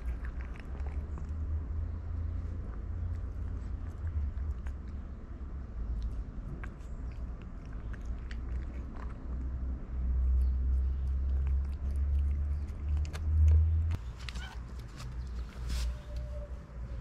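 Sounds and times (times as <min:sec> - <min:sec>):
cat chewing wet food: 0:00.0 - 0:01.7, 0:02.3 - 0:15.2.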